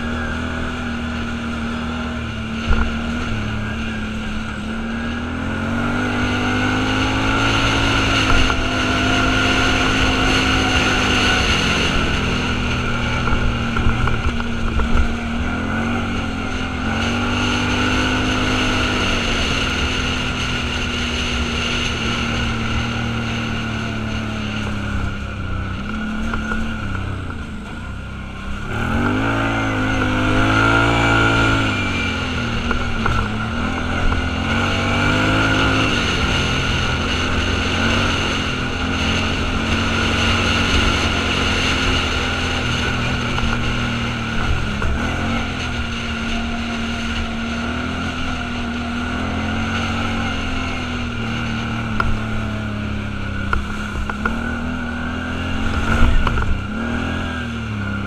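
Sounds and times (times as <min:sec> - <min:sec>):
vehicle engine revving while driving: 0:00.0 - 0:58.0.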